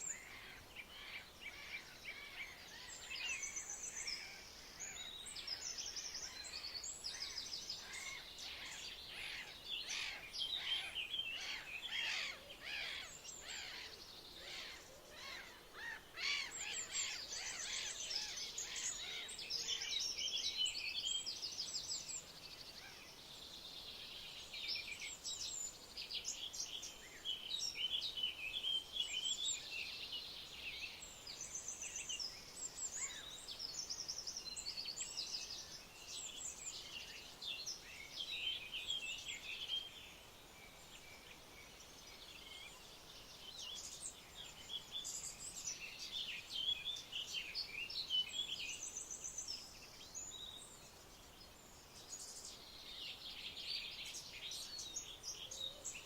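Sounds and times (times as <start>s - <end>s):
faint steady hiss: 0.0s - 56.0s
small birds chirping: 0.0s - 56.0s.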